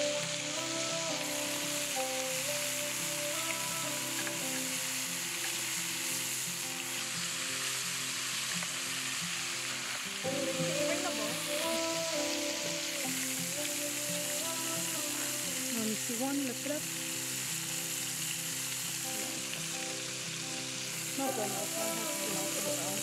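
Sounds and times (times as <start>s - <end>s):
oil sizzling in a skillet: 0.0s - 23.0s
soft music: 0.0s - 23.0s.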